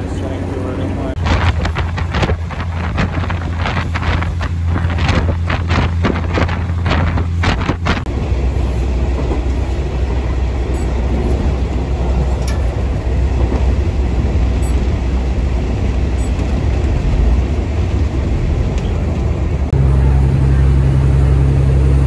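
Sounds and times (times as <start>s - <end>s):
train carriage rumbling on track: 0.0s - 22.0s
wind buffeting: 0.0s - 22.0s.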